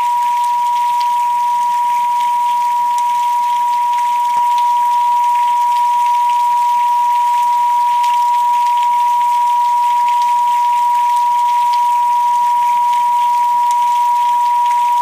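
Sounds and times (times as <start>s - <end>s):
rain: 0.0s - 15.0s
steady sine tone: 0.0s - 15.0s
rain drop ticks: 0.1s - 15.0s.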